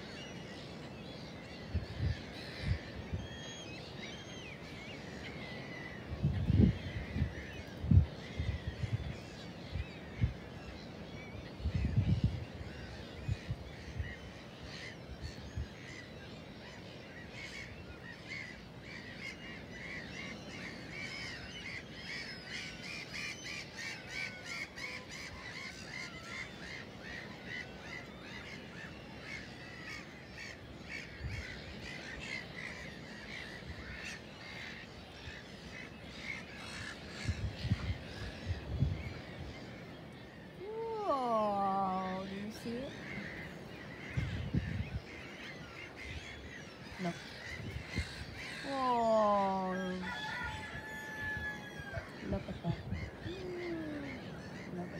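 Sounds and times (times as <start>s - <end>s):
flock of gulls calling: 0.0s - 54.9s.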